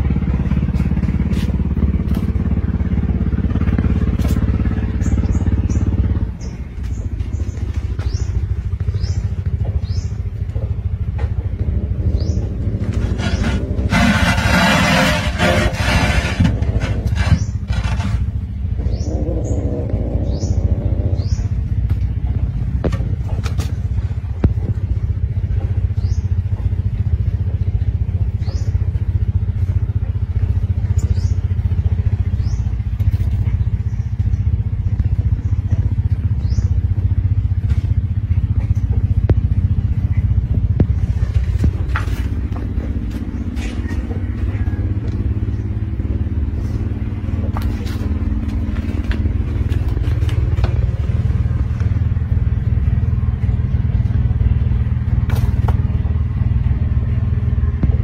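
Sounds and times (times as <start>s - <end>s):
low engine-like rumble: 0.0s - 58.0s.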